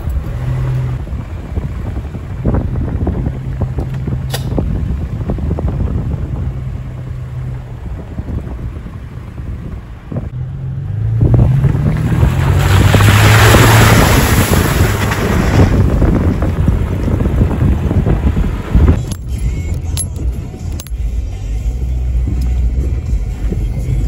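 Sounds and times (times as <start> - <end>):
wind noise on microphone: 0.0 - 10.4, 11.0 - 24.0
vehicle engine running: 0.0 - 24.0.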